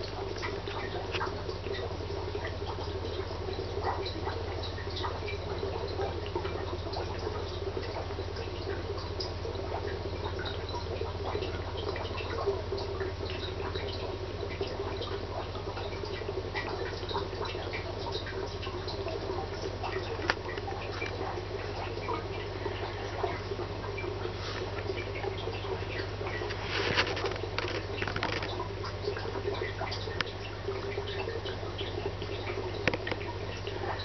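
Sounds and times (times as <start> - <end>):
aquarium hum: 0.0 - 34.0
water trickling and bubbling: 0.0 - 34.0.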